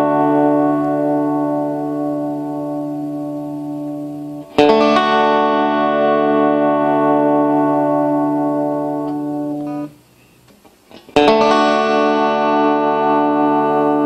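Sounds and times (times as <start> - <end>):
electric guitar chord strummed: 0.0 - 10.0, 10.9 - 14.0.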